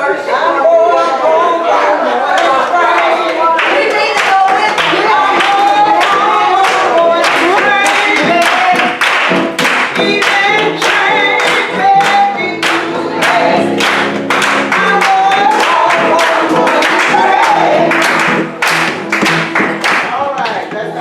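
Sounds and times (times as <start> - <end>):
group gospel singing: 0.0 - 20.2
handclaps: 3.6 - 20.7.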